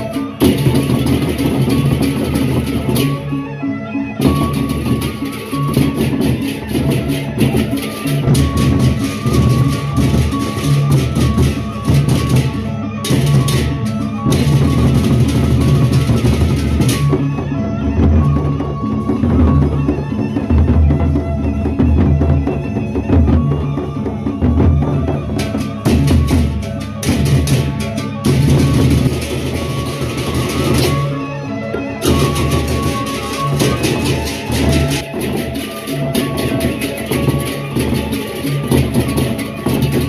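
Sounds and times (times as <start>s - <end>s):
barrel drums beaten: 0.0s - 3.2s, 4.2s - 31.1s, 31.8s - 40.0s.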